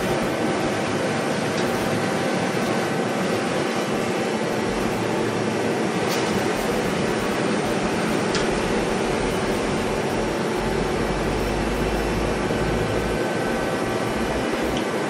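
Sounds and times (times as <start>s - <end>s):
lathe mechanical whir: 0.0s - 15.0s.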